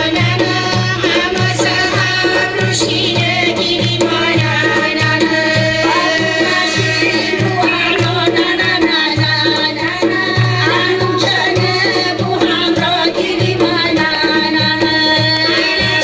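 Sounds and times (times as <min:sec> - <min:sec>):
folk music: 0:00.0 - 0:16.0
frame drums: 0:00.0 - 0:16.0
steady low drum beat: 0:00.0 - 0:16.0.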